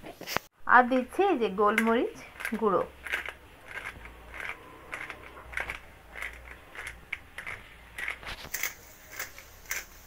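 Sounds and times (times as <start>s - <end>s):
pepper grinder crunching: 0.9s - 10.0s.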